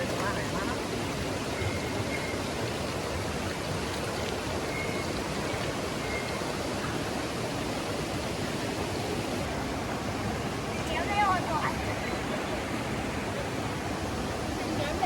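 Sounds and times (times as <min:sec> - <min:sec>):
fast-flowing stream rushing: 0:00.0 - 0:15.0.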